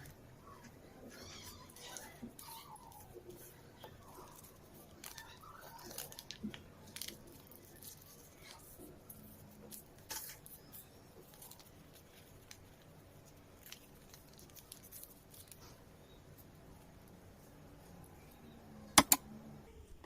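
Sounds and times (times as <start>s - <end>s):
paper rustling and crinkling: 0.0s - 16.5s.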